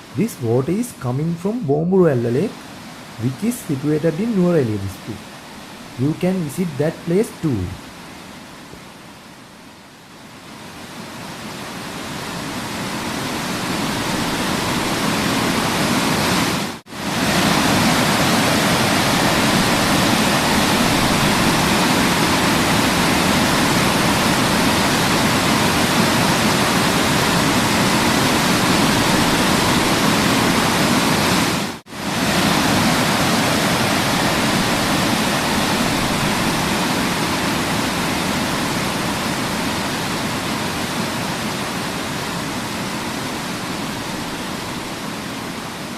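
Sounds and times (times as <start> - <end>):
waterfall rushing: 0.0 - 8.3, 11.3 - 45.9.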